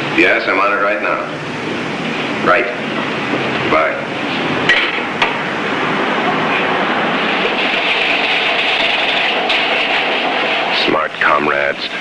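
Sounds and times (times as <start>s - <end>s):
office machines clattering: 2.0s - 12.0s.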